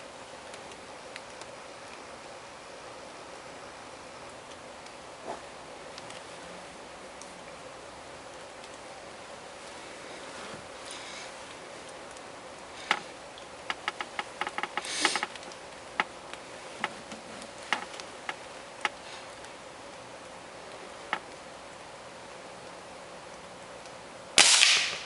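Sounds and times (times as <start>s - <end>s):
faint steady hiss: 0.0s - 25.0s
rustling hiss: 0.0s - 25.0s.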